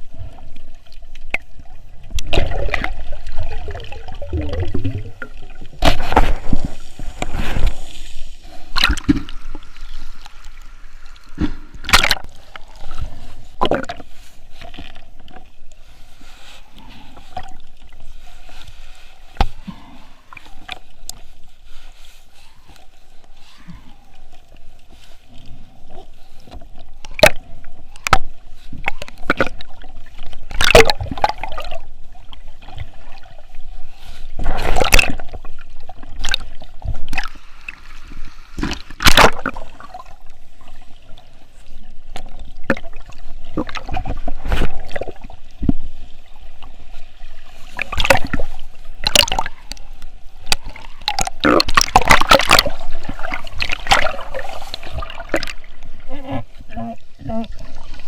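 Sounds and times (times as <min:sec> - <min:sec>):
water sloshing and gurgling: 0:00.0 - 0:58.0.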